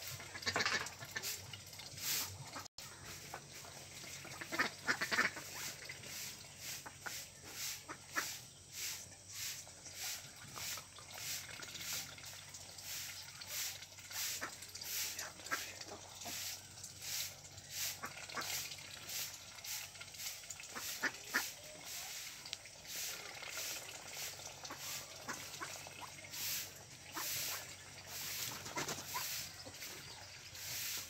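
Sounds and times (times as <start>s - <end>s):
ducks calling and clicking: 0.0s - 31.0s.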